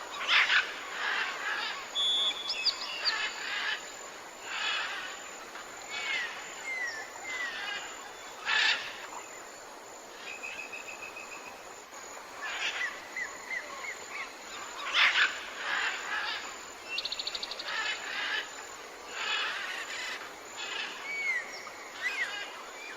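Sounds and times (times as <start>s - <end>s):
faint steady hiss: 0.0s - 22.9s.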